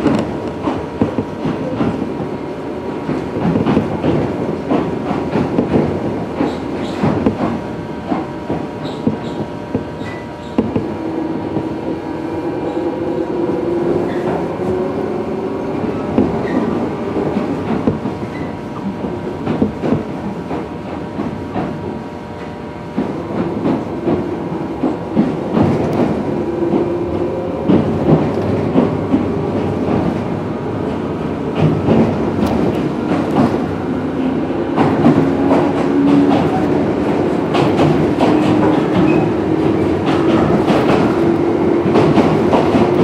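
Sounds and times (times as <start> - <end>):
train wheels clicking over rail joints: 0.0 - 12.0, 12.6 - 43.0
train motor hum: 0.0 - 43.0.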